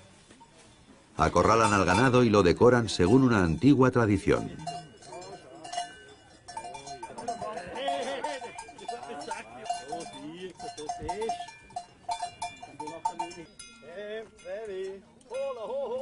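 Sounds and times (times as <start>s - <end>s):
cowbells clanking: 0.0s - 16.0s.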